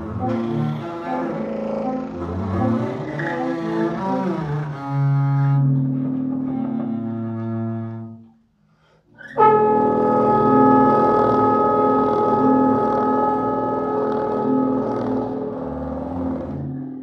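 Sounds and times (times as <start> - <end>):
trombones playing low notes: 0.0 - 8.3, 9.2 - 17.0
bowed double bass: 0.0 - 8.4, 9.2 - 17.0.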